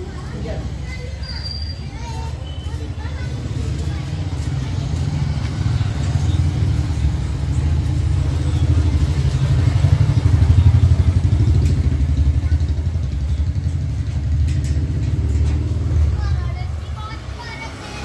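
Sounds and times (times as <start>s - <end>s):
vehicle engine idling: 2.8s - 17.8s.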